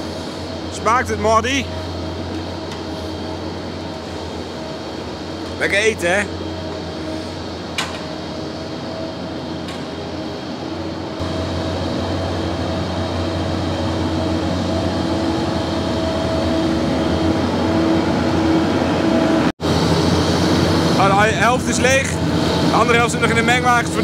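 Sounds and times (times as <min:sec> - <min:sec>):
feed mixer wagon machine hum: 0:00.0 - 0:24.0.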